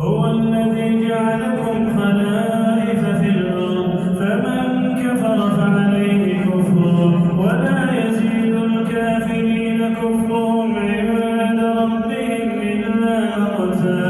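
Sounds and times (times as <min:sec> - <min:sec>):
man chanting melodically: 0:00.0 - 0:14.0.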